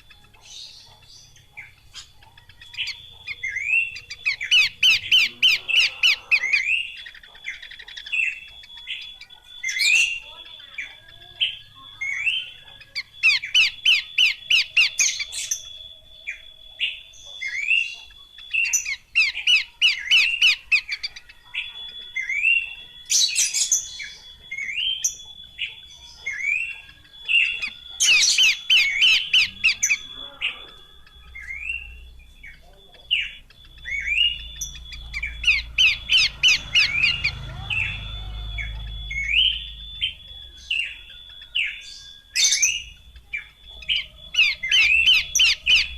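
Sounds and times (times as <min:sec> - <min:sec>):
bird chattering: 0:00.0 - 0:45.9.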